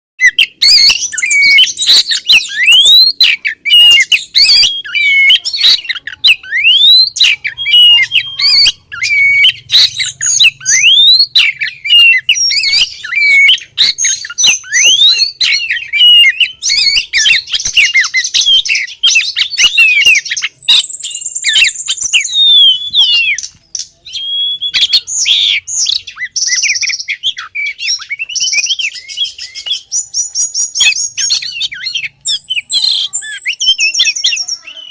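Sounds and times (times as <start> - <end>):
bird calling with chirps and whistles: 0.2 - 34.9
high bird trill: 0.2 - 34.9.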